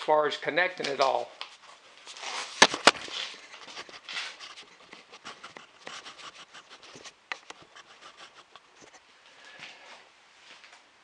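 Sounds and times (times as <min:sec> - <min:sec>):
faint scratching and rustling: 0:00.9 - 0:10.0.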